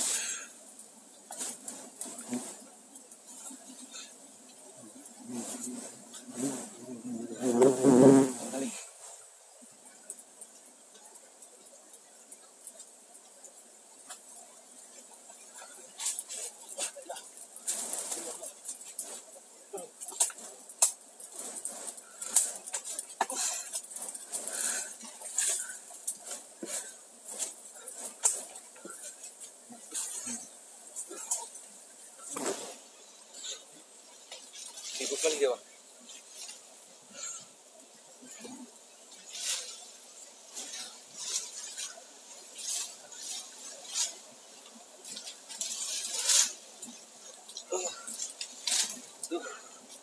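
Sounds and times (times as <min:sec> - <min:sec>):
fire crackling and snapping: 0:00.0 - 0:50.0
rustling of undergrowth: 0:00.0 - 0:50.0.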